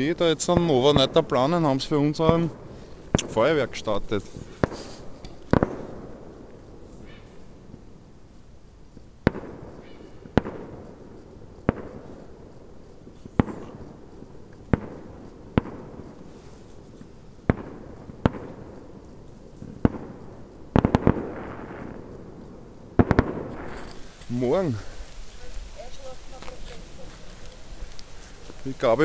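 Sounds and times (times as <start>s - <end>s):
fireworks bangs with echo: 0.0s - 8.1s, 9.0s - 29.0s.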